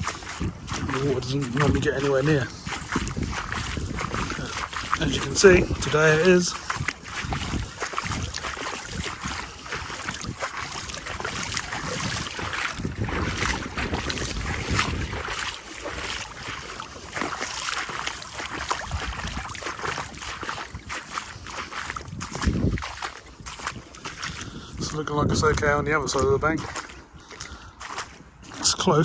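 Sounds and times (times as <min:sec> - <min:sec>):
gusty wind buffeting microphone: 0:00.0 - 0:28.8.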